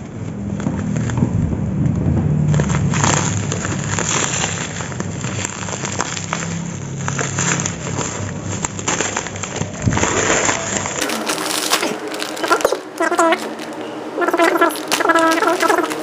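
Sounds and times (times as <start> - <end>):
plastic packaging crinkling: 2.4 - 16.0.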